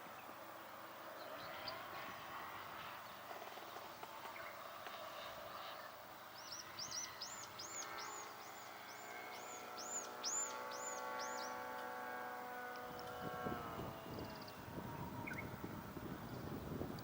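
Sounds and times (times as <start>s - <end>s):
distant model airplane droning: 0.0s - 17.0s.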